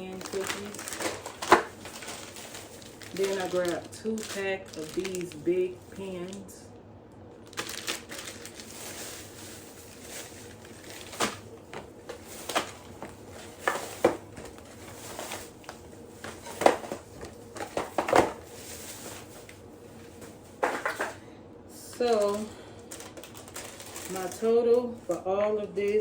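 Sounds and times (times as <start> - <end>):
packaging being handled: 0.0 - 6.4, 7.4 - 21.2, 22.0 - 24.4.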